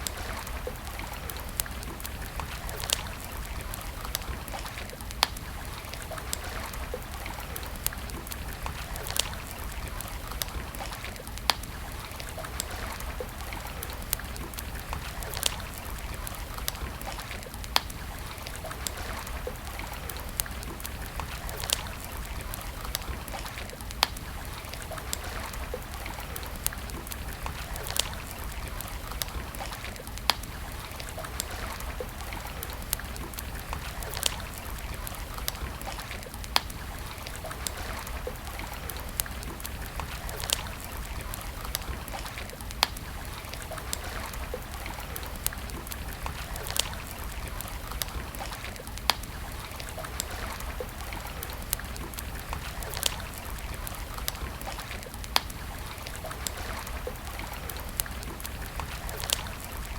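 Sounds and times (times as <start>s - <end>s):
campfire crackling: 0.0s - 59.9s
low hiss and rumble: 0.0s - 59.9s.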